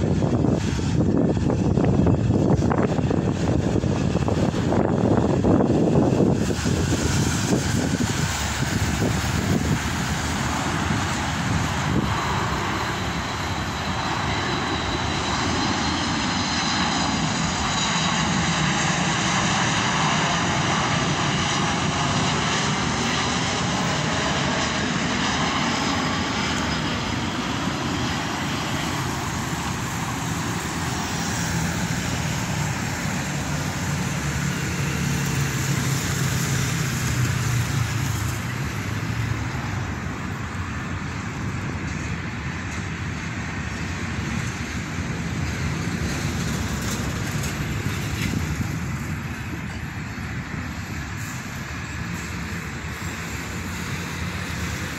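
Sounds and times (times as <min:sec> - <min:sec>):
jet plane flying overhead: 0:00.0 - 0:54.9.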